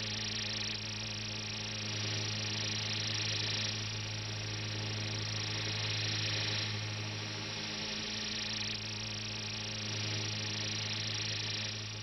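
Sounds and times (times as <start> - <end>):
electronic low hum with hiss: 0.0 - 12.0.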